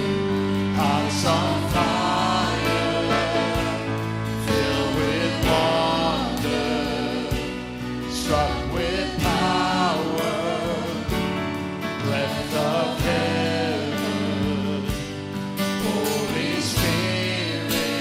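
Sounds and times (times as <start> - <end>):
instrumental accompaniment: 0.0 - 18.0
people singing worship song: 0.0 - 18.0.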